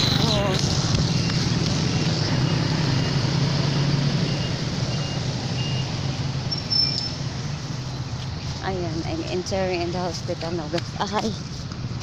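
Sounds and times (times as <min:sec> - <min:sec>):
vehicle on wet road: 0:00.0 - 0:12.0.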